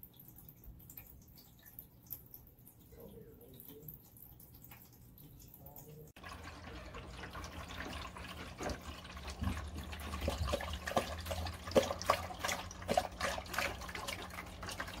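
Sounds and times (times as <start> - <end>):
dog lapping water: 0.0 - 15.0
low pump hum: 0.0 - 15.0.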